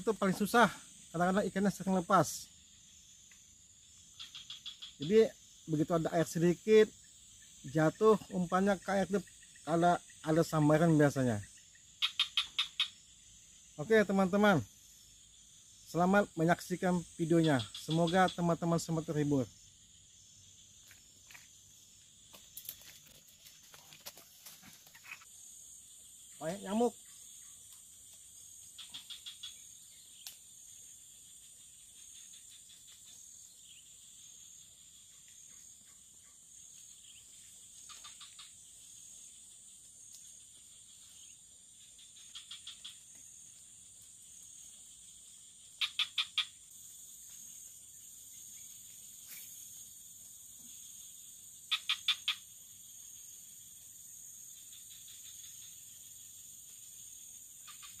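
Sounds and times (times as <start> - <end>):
high-pitched insect chorus: 0.0 - 58.0
insect call of quick pulses: 0.0 - 58.0.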